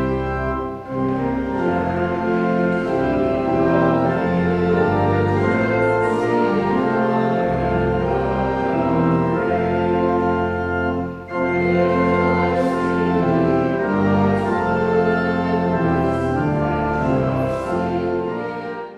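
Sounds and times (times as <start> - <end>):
organ chords: 0.0 - 18.9.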